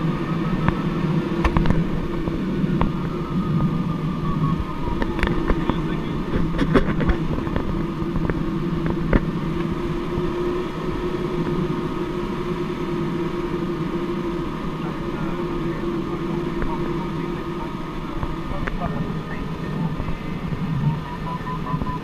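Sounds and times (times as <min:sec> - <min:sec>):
aircraft cockpit drone: 0:00.0 - 0:22.0.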